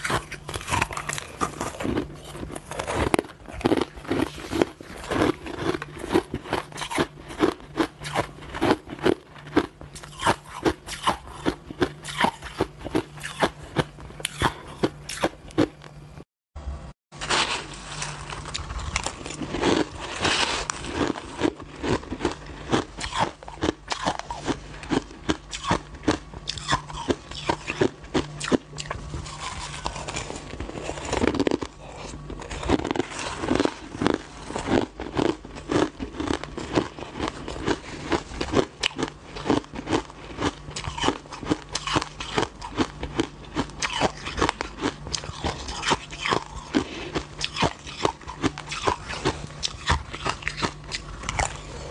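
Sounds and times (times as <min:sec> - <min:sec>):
crushed ice being chewed: 0:00.0 - 0:16.0, 0:17.2 - 0:51.9.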